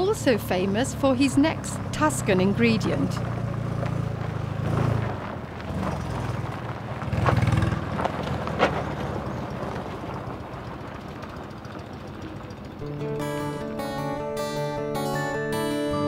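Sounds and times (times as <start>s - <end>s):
small car engine driving by: 0.0s - 16.0s.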